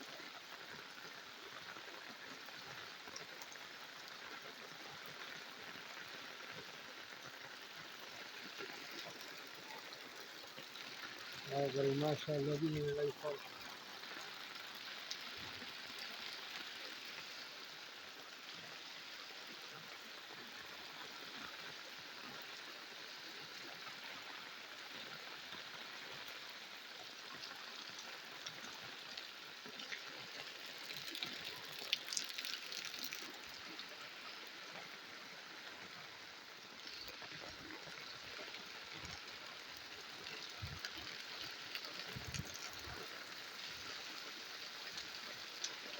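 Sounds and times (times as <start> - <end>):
rain and running water: 0.0 - 45.9.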